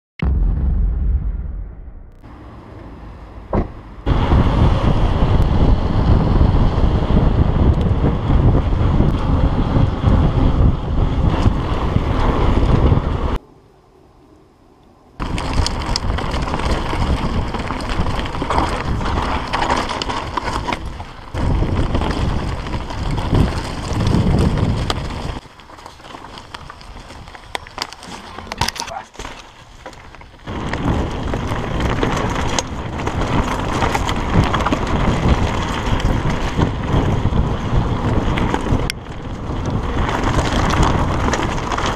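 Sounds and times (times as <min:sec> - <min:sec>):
bike tyre rumble and rattle: 0:00.2 - 0:13.4, 0:15.2 - 0:41.9
wind buffeting microphone: 0:00.2 - 0:13.4, 0:15.2 - 0:28.7, 0:30.0 - 0:41.9.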